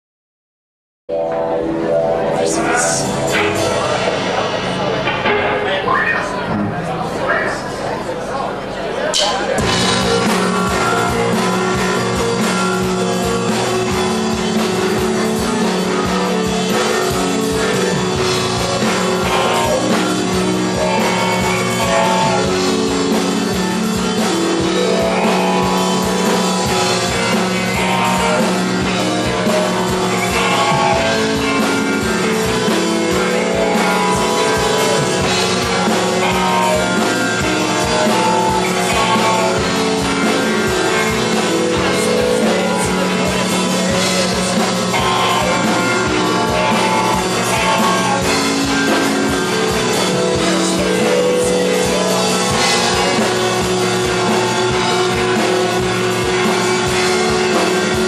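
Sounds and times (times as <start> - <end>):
live rock band: 1.1 - 58.0
fast drumming: 9.2 - 58.0.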